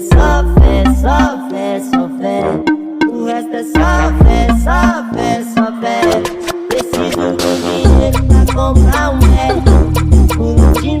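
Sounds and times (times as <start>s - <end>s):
rap song with heavy bass beat: 0.0s - 11.0s.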